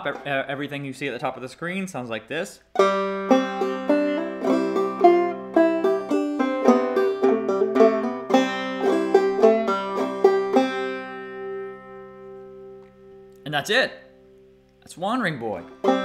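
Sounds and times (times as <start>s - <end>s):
banjo plucked melody: 0.0s - 1.2s, 2.7s - 14.5s, 15.4s - 16.0s.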